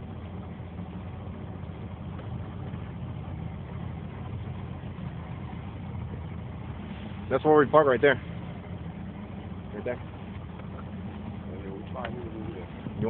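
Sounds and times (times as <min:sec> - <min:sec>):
outboard motor running: 0:00.0 - 0:13.0
wind and water rushing: 0:00.0 - 0:13.0.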